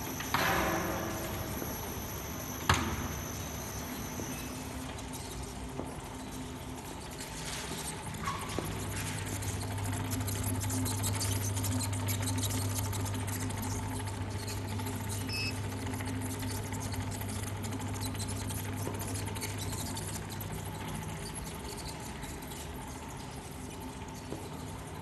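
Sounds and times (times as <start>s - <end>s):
conveyor clattering: 0.0s - 25.0s
machine motor hum: 0.0s - 25.0s.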